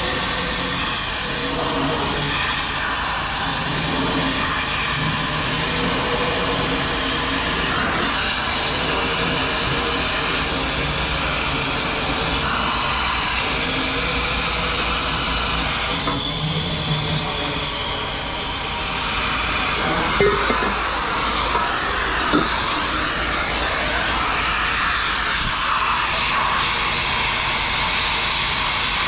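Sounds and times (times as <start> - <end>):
cutting torch roaring hiss: 0.0 - 29.0.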